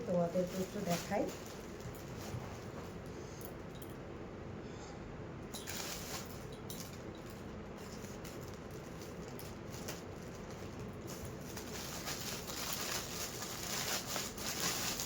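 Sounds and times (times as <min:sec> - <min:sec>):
plastic packaging rustling: 0:00.0 - 0:03.2, 0:05.6 - 0:15.0.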